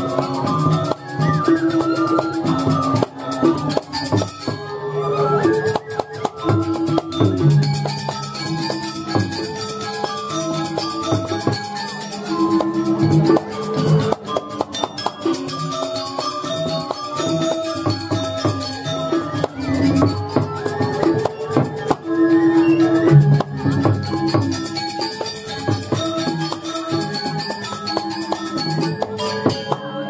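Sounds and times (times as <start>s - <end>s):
drum strokes: 0.0s - 4.7s, 5.4s - 29.8s
fast cymbal clashes: 0.0s - 4.7s, 5.5s - 29.8s
metallophones ringing: 0.0s - 30.0s.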